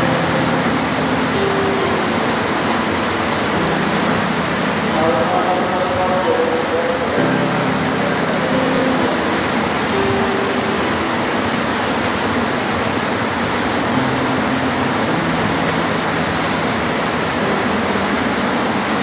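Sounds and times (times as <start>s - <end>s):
dense rain hiss: 0.0s - 19.0s.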